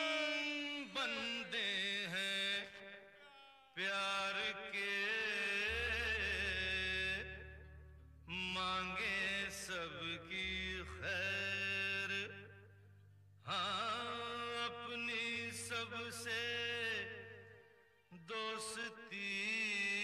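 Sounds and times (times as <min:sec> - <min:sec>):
person singing long wavering notes: 0:03.2 - 0:20.0.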